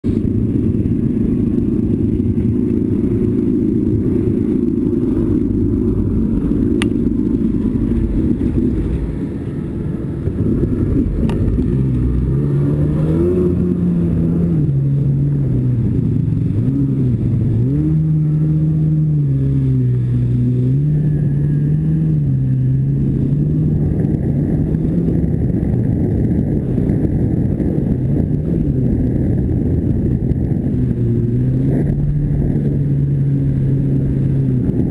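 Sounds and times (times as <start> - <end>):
jet ski engine running: 0.1 - 34.9.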